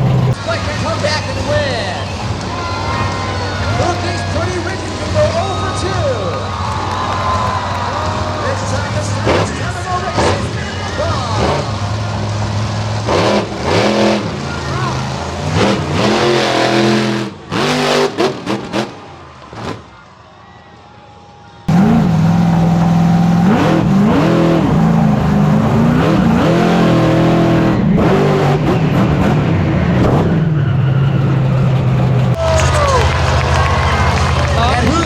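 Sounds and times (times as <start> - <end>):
truck engines revving: 0.0 - 20.8, 21.5 - 35.0.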